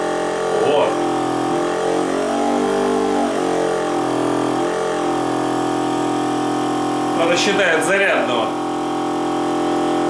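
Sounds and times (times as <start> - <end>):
air compressor motor hum: 0.0 - 10.0.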